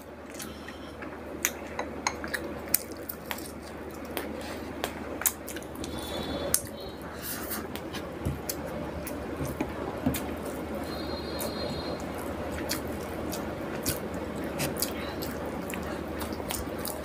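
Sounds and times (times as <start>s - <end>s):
chewing: 0.3s - 6.7s, 7.7s - 17.0s
wet squishing of food: 1.3s - 6.9s, 7.6s - 17.0s.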